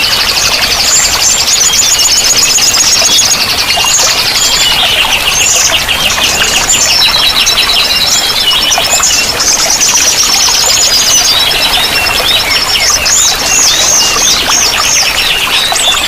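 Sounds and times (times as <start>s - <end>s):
flowing water: 0.0s - 16.0s
songbirds singing: 0.0s - 16.0s.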